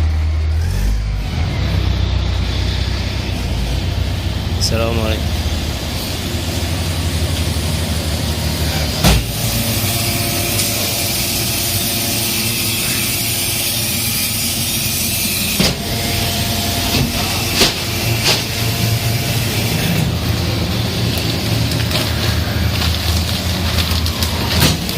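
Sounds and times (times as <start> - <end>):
baler motor hum: 0.0 - 24.9.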